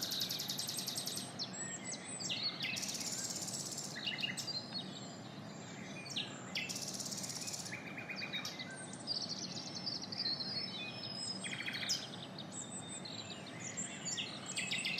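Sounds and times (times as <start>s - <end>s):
low background noise: 0.0s - 14.9s
small birds chirping and singing: 0.0s - 14.9s.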